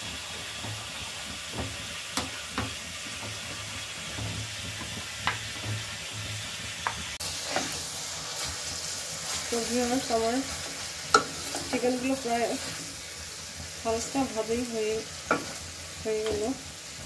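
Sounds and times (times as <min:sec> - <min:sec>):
sizzling hiss of frying: 0:00.0 - 0:17.0.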